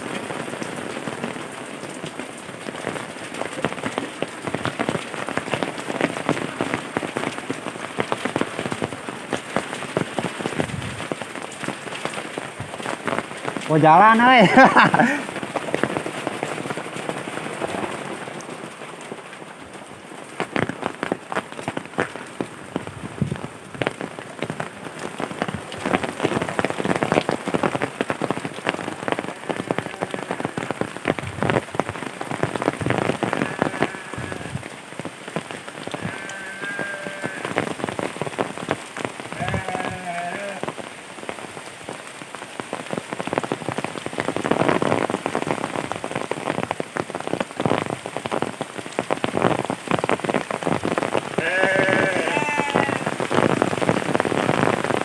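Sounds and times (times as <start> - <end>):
rain falling: 0.0 - 55.0
raindrops hitting nearby surfaces: 0.0 - 55.0.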